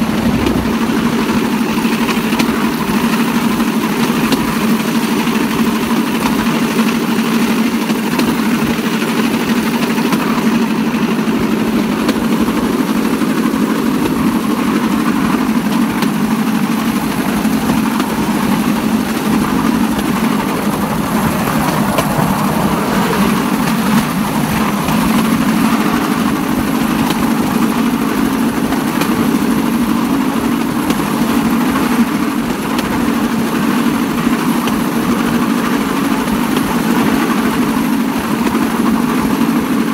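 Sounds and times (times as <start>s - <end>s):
small engine droning: 0.0s - 39.9s.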